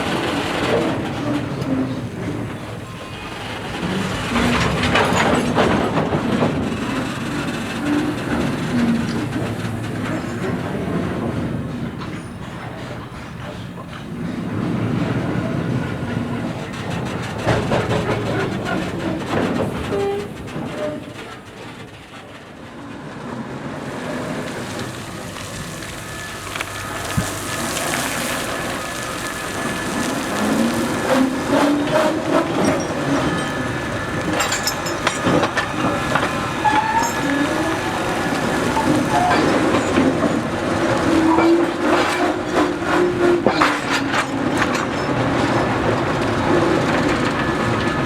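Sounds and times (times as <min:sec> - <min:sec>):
steam train moving along track: 0:00.0 - 0:48.0
wagons and wheels clanking: 0:00.0 - 0:48.0.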